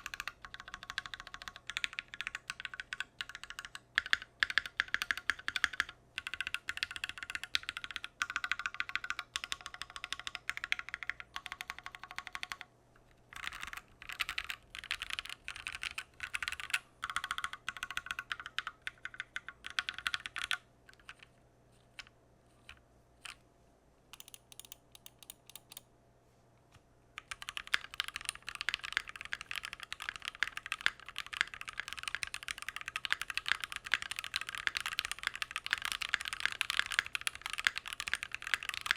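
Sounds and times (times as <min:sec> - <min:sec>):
mechanical keyboard typing: 0:00.0 - 0:12.7, 0:13.4 - 0:21.3, 0:24.2 - 0:25.8, 0:27.2 - 0:38.9.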